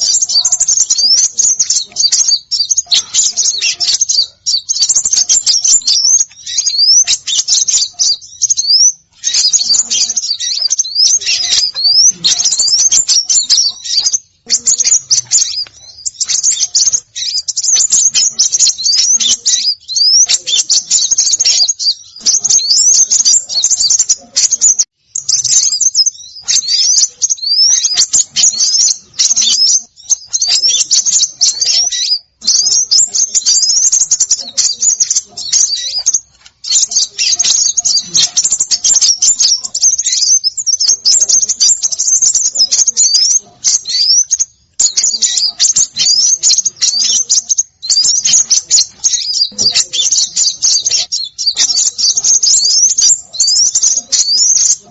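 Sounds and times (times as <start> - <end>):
small songbirds chattering: 0.0 - 54.9.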